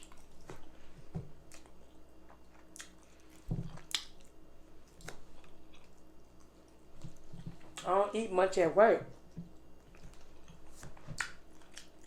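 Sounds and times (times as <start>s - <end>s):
chewing and mouth smacks: 0.0s - 7.9s, 9.3s - 12.0s.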